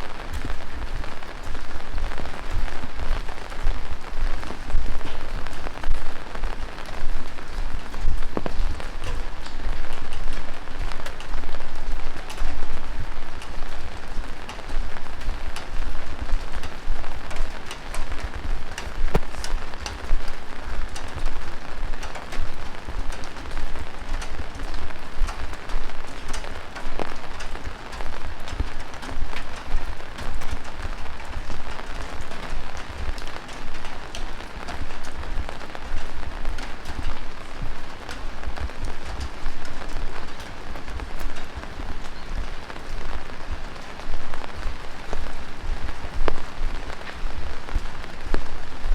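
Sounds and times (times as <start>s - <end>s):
close raindrop hits ticking: 0.0s - 48.9s
heavy rain falling: 0.0s - 48.9s.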